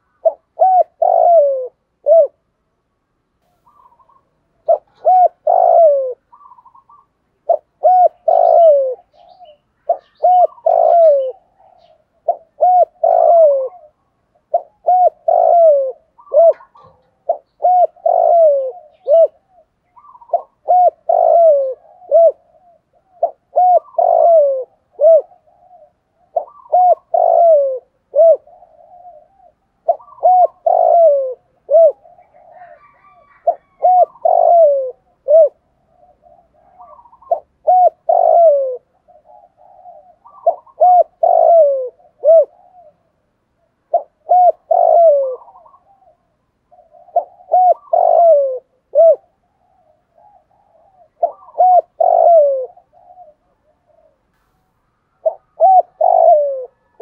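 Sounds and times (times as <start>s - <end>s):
dove cooing: 0.0s - 2.5s, 3.5s - 54.3s, 55.1s - 57.0s.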